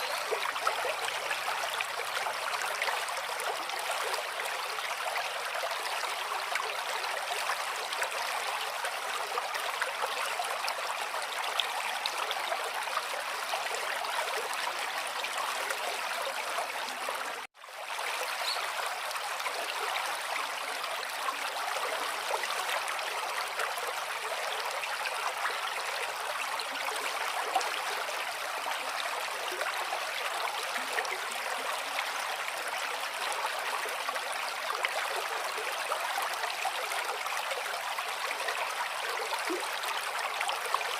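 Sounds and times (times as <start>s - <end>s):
flowing water trickling: 0.0s - 40.9s.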